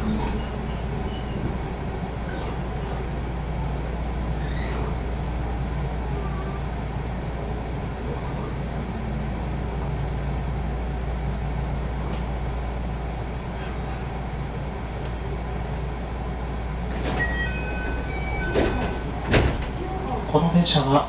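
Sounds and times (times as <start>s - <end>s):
electric train rolling to a stop: 0.0s - 21.0s.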